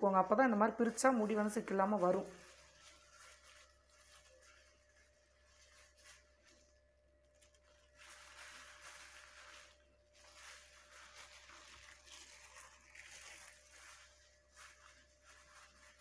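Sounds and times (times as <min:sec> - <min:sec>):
plastic glove rustling in hair: 0:00.0 - 0:16.0.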